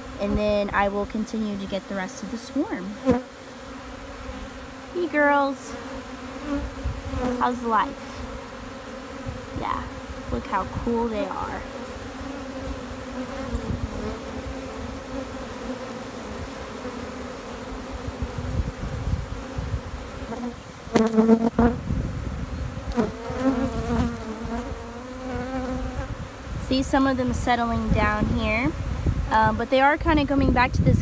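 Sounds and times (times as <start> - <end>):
bee swarm buzzing: 0.0 - 30.7
single bee flying past: 1.7 - 27.3.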